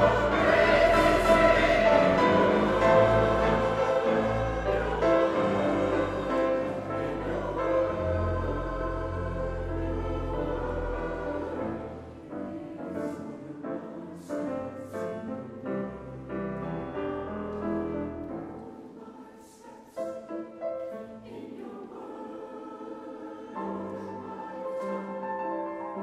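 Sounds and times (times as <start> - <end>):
choir singing held notes: 0.0 - 15.1, 18.4 - 26.0.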